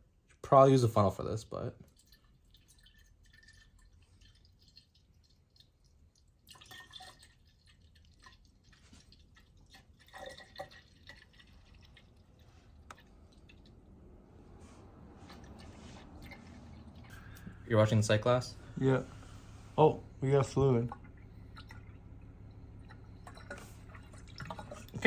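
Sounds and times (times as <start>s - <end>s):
liquid trickling and dripping: 1.5s - 25.0s.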